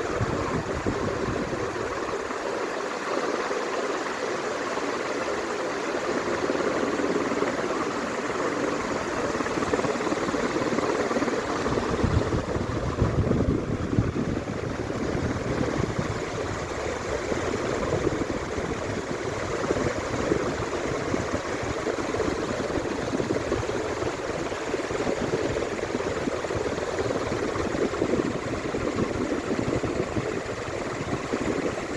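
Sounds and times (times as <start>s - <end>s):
ceiling fan whooshing: 0.0s - 2.6s, 8.1s - 31.9s.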